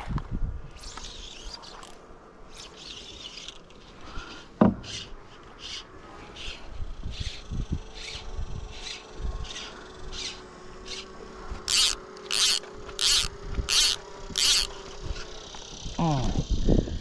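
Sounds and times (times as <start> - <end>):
fly line rasping through guides: 0.7 - 4.1, 4.9 - 16.1.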